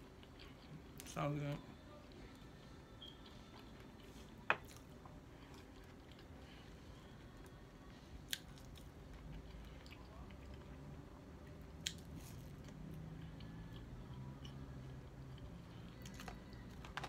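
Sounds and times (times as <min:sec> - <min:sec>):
person chewing food: 0:00.0 - 0:01.1, 0:02.1 - 0:07.6, 0:08.2 - 0:16.7.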